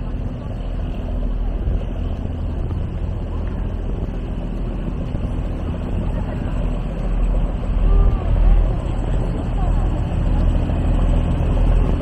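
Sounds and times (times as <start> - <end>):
boat engine running at low revs: 0.0 - 12.0
wind on microphone: 0.0 - 12.0.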